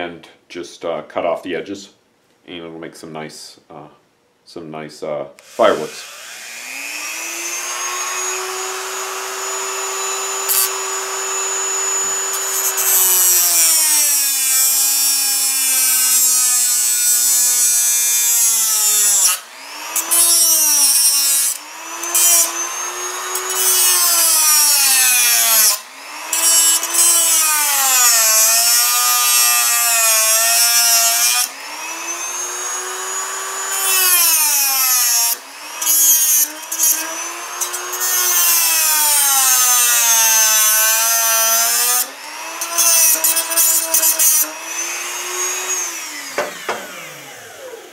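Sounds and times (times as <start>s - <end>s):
rotary tool grinding screws: 5.4s - 47.9s.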